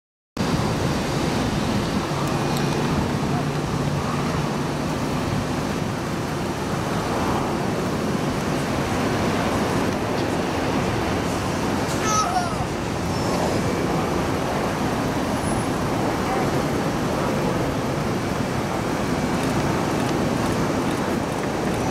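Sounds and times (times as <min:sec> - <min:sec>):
distant jet engines roaring: 0:00.4 - 0:21.9
airport background noise: 0:00.5 - 0:21.9.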